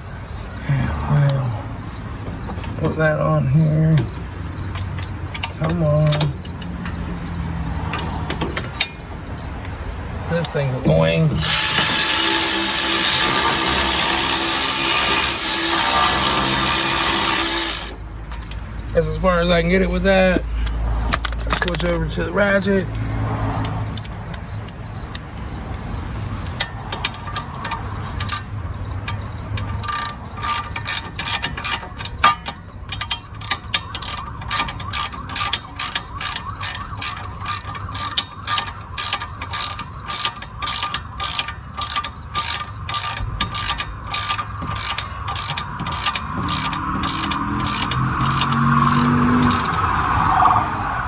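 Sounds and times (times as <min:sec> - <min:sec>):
socket ratchet clicking: 0:04.0 - 0:19.0, 0:22.9 - 0:50.2.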